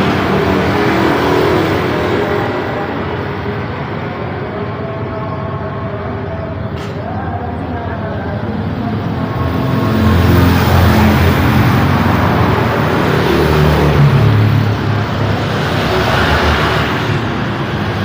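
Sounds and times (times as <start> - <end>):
large vehicle engine passing: 0.0 - 18.0
passing road traffic: 0.0 - 18.0.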